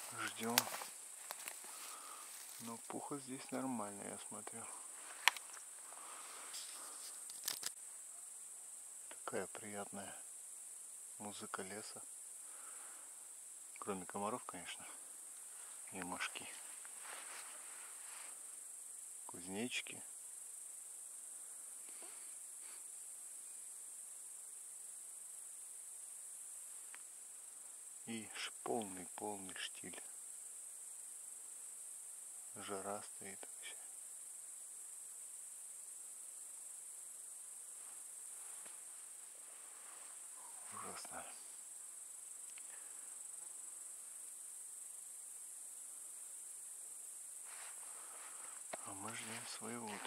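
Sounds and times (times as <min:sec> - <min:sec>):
grasshoppers chirring: 0:00.0 - 0:50.0.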